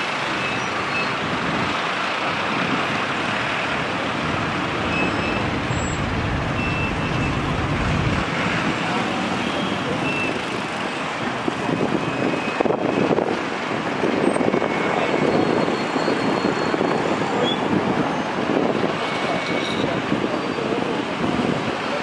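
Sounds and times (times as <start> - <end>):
traffic engines idling: 0.0 - 22.0.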